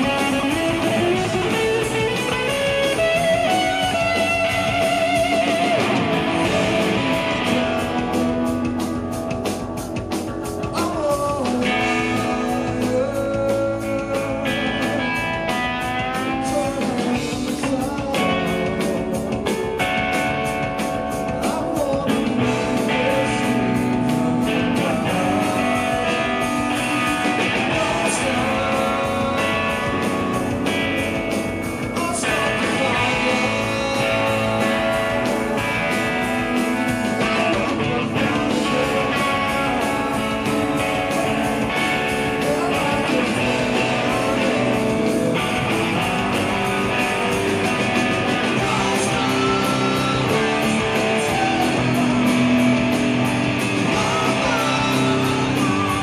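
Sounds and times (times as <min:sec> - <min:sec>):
man singing lead vocals: 0:00.0 - 0:09.5, 0:10.2 - 0:56.0
bass guitar: 0:00.0 - 0:56.0
drums keeping a steady beat: 0:00.0 - 0:56.0
electric guitar: 0:00.0 - 0:56.0.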